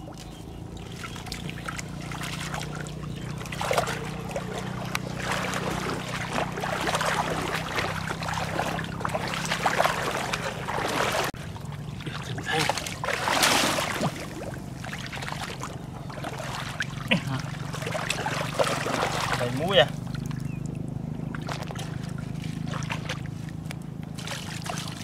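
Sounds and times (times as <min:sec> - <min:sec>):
water sloshing around wading legs: 0:00.0 - 0:25.0.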